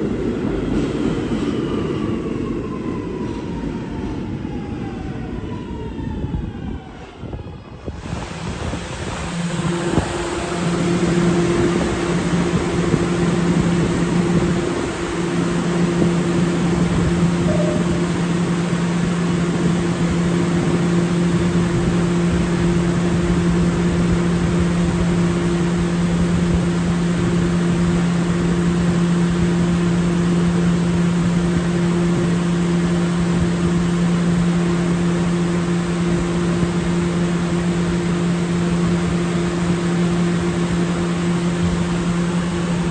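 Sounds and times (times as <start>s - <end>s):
subway train electrical hum: 0.0s - 42.9s
constant rushing noise: 7.1s - 42.9s.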